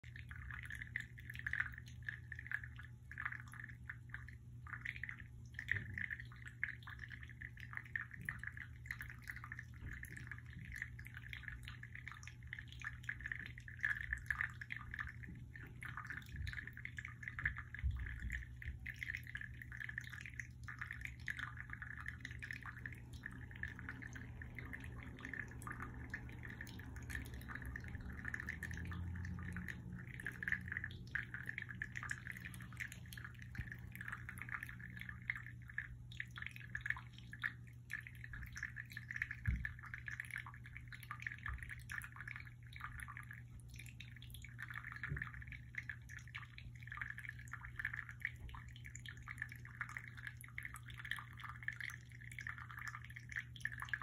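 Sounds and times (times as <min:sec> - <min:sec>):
low steady hum: 0:00.0 - 0:54.0
water dripping and trickling: 0:00.0 - 0:54.0.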